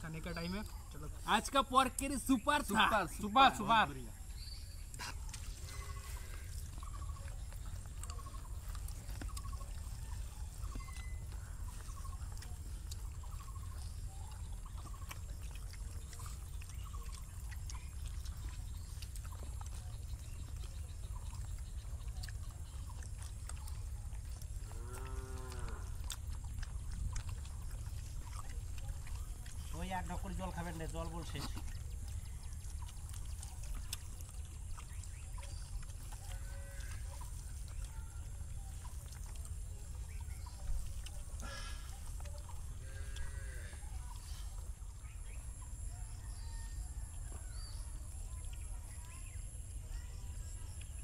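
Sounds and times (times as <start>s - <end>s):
hands mixing wet food: 0.0s - 49.8s.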